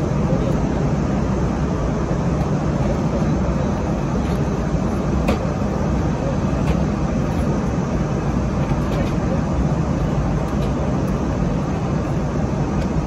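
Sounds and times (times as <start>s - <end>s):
airliner cabin engine noise: 0.0s - 13.0s.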